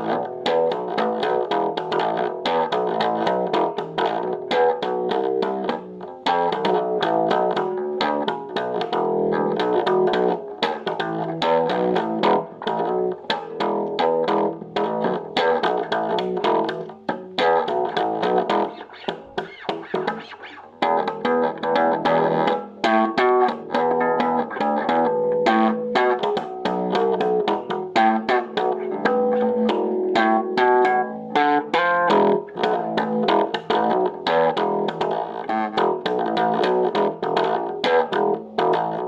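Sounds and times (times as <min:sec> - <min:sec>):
electric bass guitar plucked notes: 0:00.0 - 0:39.0.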